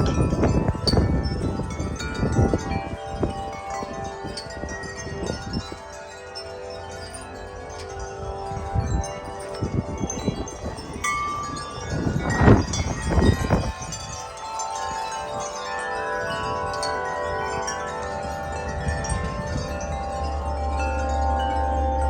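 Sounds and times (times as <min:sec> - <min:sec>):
low rumbling wind gusts: 0:00.0 - 0:22.0
wind chime tubes ringing: 0:00.0 - 0:22.0.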